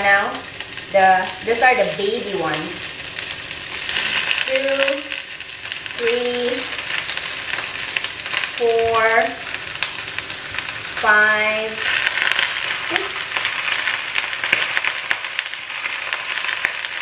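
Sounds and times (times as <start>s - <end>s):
squid frying in a pan: 0.0s - 17.0s.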